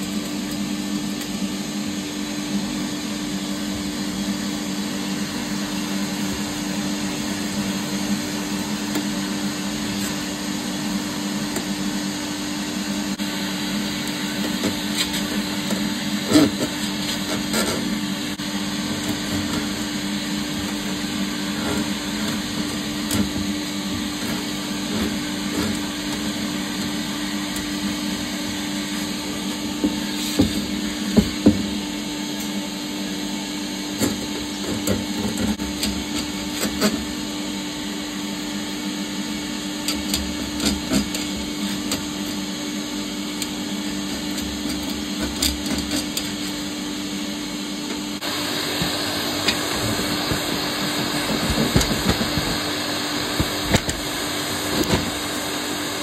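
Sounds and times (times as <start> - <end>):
vacuum sucking soot: 0.0 - 56.0.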